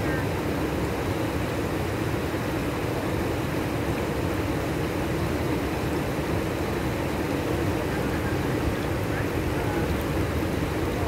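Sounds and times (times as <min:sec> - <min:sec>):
river in flood roaring: 0:00.0 - 0:11.0.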